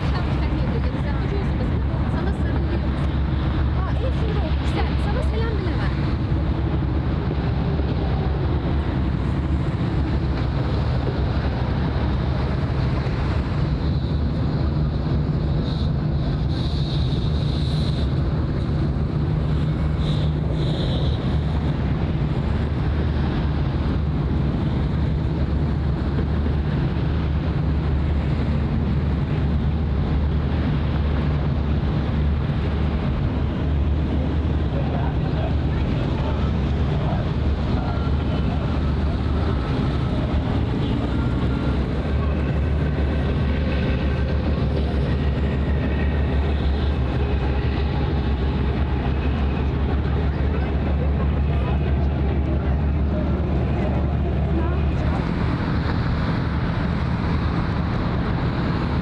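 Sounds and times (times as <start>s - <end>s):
boat engine rumble: 0.0s - 59.0s
wind buffeting microphone: 0.0s - 59.0s.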